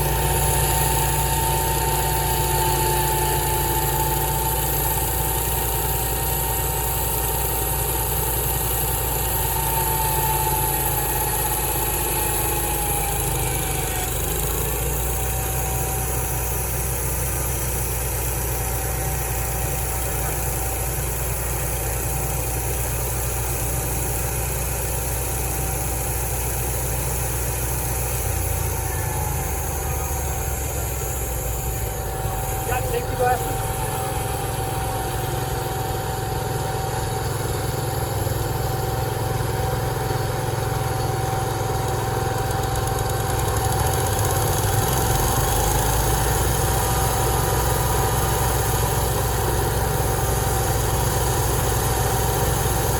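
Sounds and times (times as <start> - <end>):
engine idling: 0.0 - 52.9
steady whine: 0.0 - 52.9.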